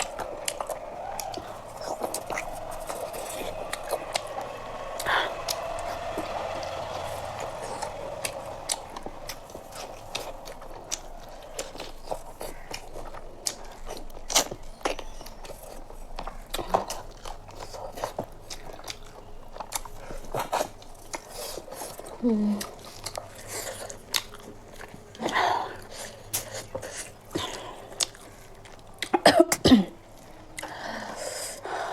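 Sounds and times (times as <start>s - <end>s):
chewing chicken: 0.0s - 31.9s.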